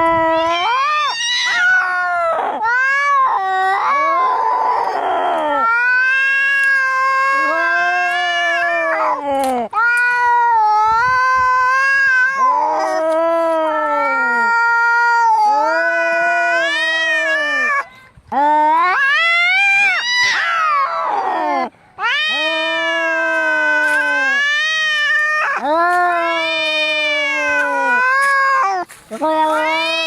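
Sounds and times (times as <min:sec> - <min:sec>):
cats yowling: 0:00.0 - 0:30.0.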